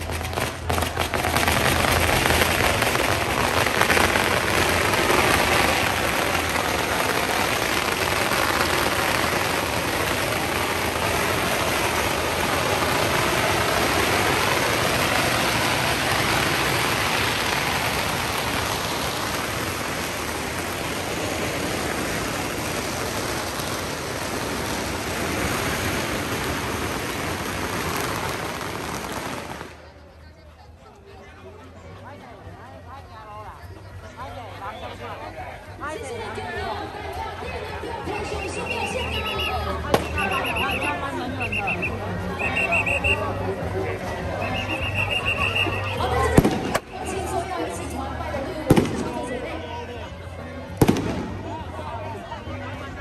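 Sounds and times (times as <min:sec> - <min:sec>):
firecrackers crackling: 0:00.0 - 0:30.2, 0:37.1 - 0:49.7, 0:50.6 - 0:53.0.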